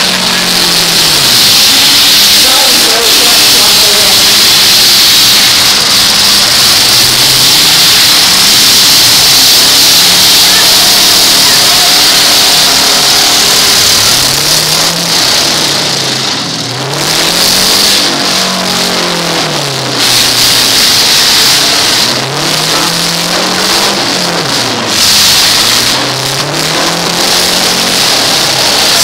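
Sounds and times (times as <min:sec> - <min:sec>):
roar of many engines: 0:00.0 - 0:29.0
truck engines revving: 0:00.0 - 0:29.0.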